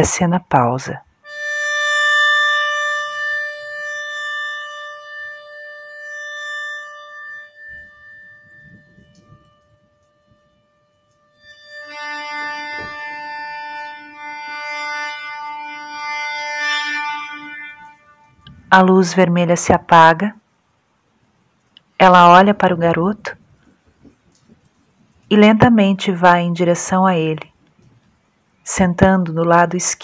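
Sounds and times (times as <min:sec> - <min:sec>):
long held instrumental notes: 0:00.8 - 0:20.4, 0:21.8 - 0:27.9.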